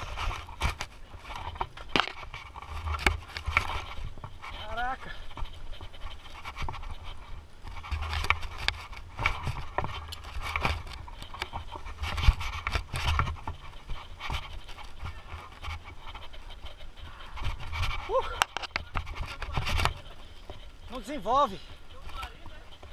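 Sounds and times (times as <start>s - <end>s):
wind noise on microphone: 0.0s - 21.0s
bike clicks and rattles: 0.0s - 22.9s.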